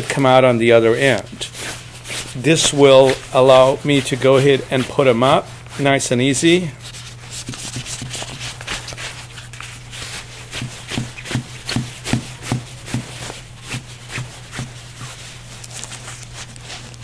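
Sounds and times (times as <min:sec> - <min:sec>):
steady low hum: 0:00.0 - 0:17.0
fabric rustling on a wire: 0:01.0 - 0:17.0.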